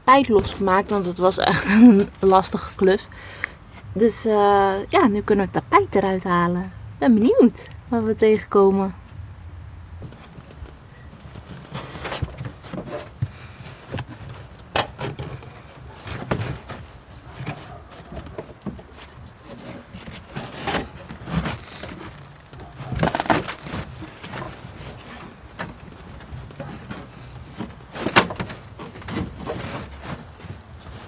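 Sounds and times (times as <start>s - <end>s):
carpet rustling and scraping: 0.0s - 4.7s, 10.0s - 31.0s.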